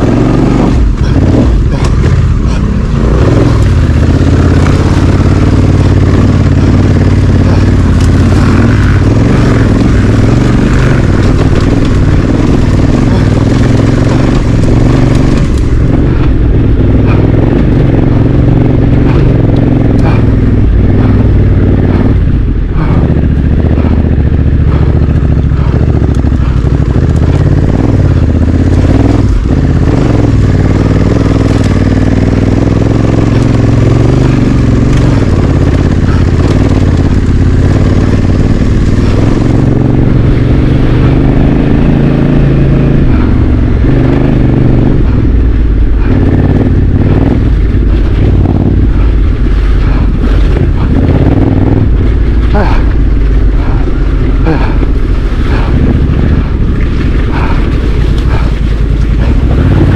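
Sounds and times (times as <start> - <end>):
motorcycle engine at low revs: 0.0 - 59.9.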